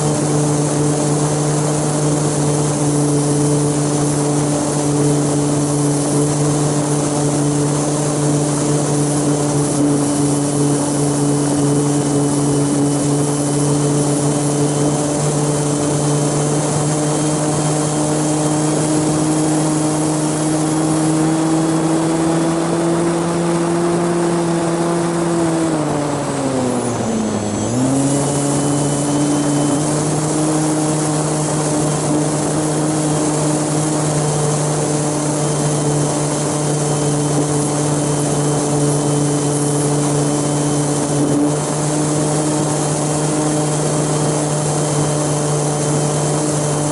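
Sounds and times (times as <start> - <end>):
faint high whine: 0.0 - 46.9
propeller motor running: 0.0 - 46.9
wind noise: 0.0 - 46.9.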